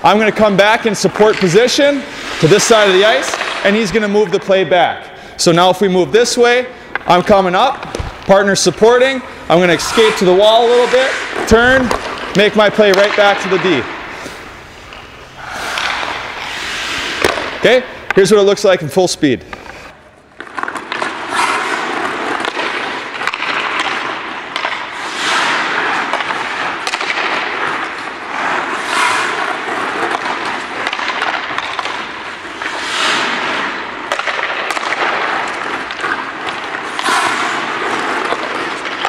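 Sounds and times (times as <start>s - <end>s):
skate blades scraping ice: 0.0s - 4.6s, 5.5s - 18.4s, 19.5s - 39.0s
hockey sticks clacking puck: 0.0s - 39.0s.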